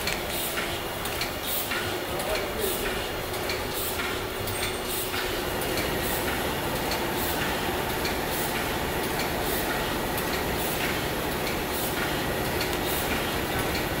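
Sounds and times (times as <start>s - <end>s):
machine clatter and rumble: 0.0s - 14.0s.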